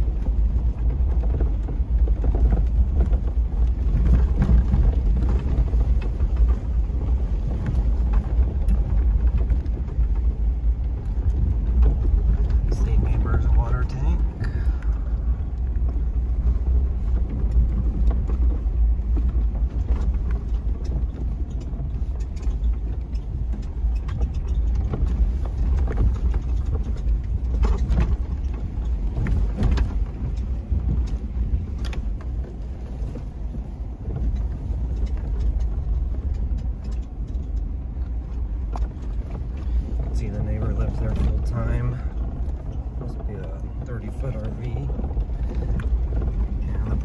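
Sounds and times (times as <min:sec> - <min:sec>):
car interior rattles: 0:00.0 - 0:47.0
engine and tyres rumbling: 0:00.0 - 0:47.0.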